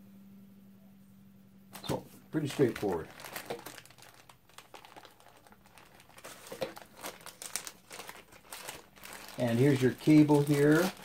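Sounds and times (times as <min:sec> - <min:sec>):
plastic bag crinkling: 0:01.8 - 0:11.0.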